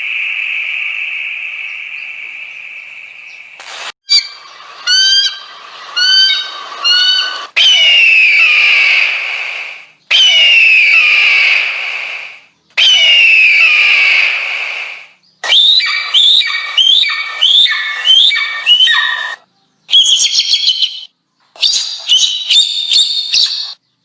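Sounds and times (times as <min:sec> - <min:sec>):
eagle chirping calls: 0:00.0 - 0:23.8
eagle screaming: 0:04.1 - 0:23.8.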